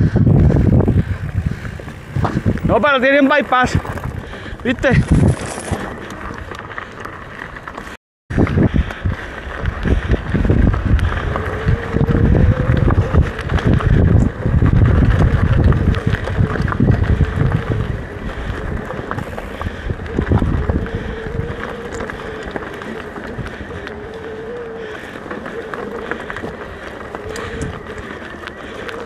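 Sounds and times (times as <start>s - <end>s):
wind buffeting microphone: 0.0s - 7.3s, 8.3s - 29.0s
bike tyres rattling on rough ground: 0.0s - 29.0s.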